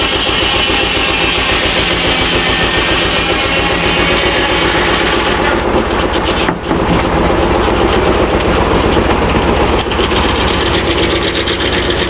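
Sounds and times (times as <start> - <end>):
sawmill engine pulsing: 0.0 - 12.0.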